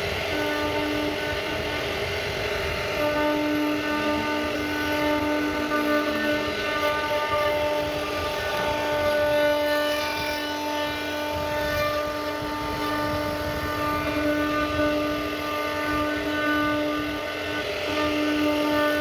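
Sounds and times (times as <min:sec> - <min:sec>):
cutter carving wood: 0:00.0 - 0:19.0
router spindle whine: 0:00.0 - 0:19.0.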